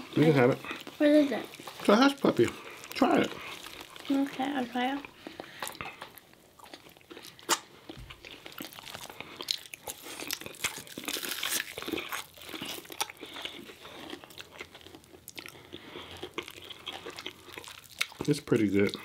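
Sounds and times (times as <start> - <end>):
crunchy chewing of food: 0.0 - 19.0.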